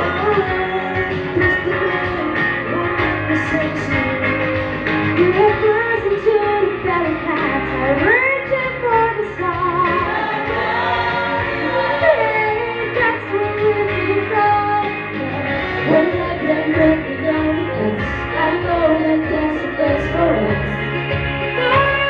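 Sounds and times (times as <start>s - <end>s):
woman singing into microphone: 0.0s - 4.2s, 5.2s - 20.9s, 21.5s - 22.0s.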